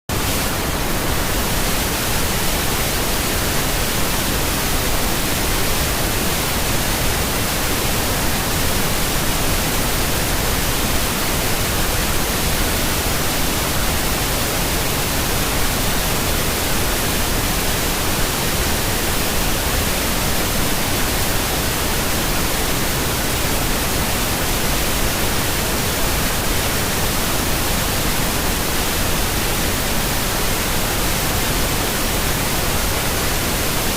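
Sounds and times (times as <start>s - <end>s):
pink noise hiss: 0.1s - 33.9s.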